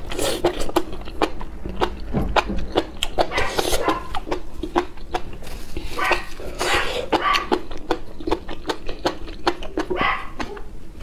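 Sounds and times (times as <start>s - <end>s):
wet chewing mouth clicks: 0.0s - 11.0s.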